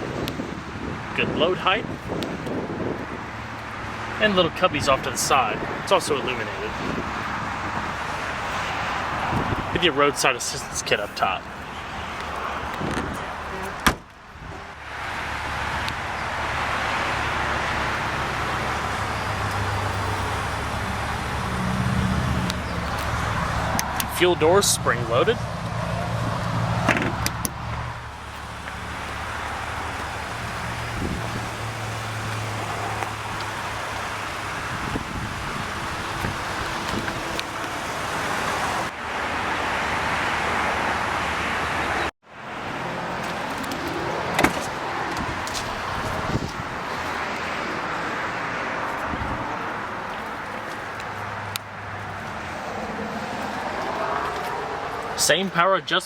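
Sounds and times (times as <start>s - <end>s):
road traffic noise: 0.0s - 56.0s
passing vehicle engine hum: 2.0s - 55.2s.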